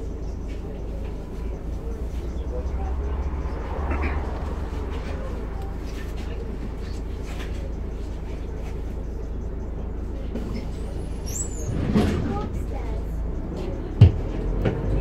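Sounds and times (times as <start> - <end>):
bus diesel engine drone: 0.0 - 15.0
road noise: 0.0 - 15.0.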